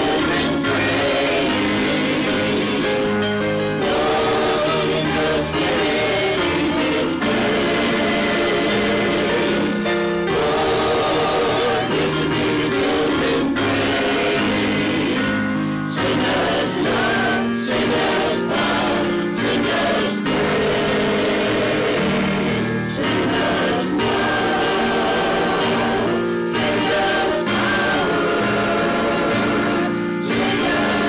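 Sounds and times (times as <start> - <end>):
choir singing a hymn: 0.0 - 31.0
piano accompaniment: 0.0 - 31.0.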